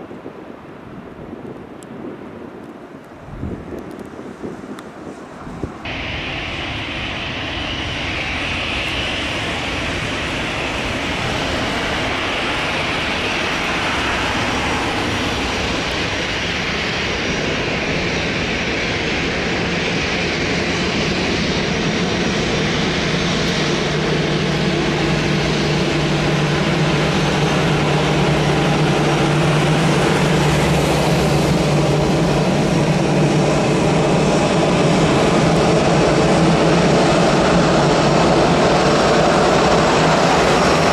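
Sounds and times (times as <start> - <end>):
jet engines roaring: 3.3 - 40.9.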